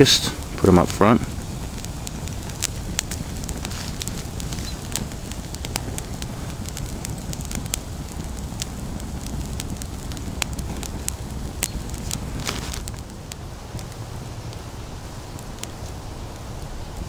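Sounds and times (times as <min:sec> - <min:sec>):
low rumble: 0:00.0 - 0:15.7
campfire crackling and popping: 0:00.0 - 0:17.0.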